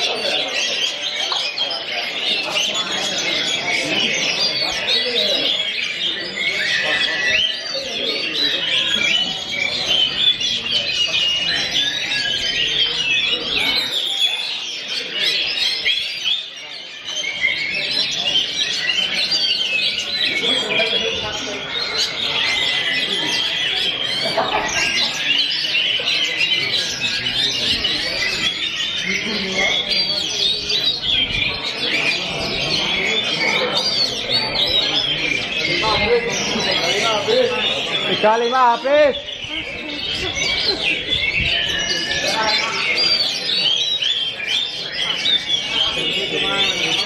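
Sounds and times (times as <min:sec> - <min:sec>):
caged songbirds singing: 0:00.0 - 0:47.0.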